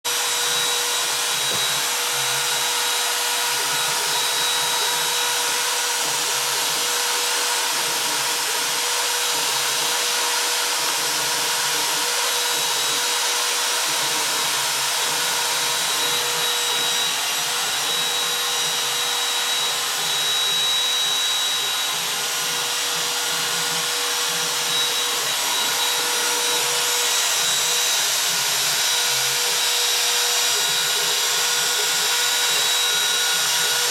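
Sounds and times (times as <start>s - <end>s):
electric router whining: 0.0s - 33.9s.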